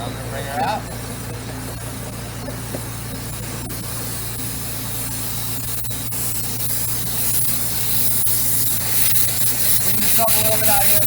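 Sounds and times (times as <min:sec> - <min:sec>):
compressed air hissing: 0:00.0 - 0:11.0
steady low hum: 0:00.0 - 0:11.0.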